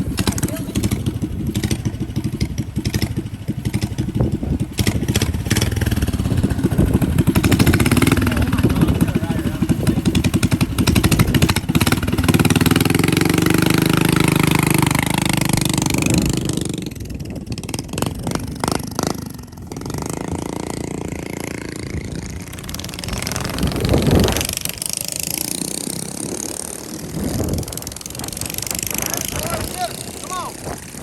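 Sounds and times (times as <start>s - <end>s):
mini bike engine running: 0.0s - 31.0s.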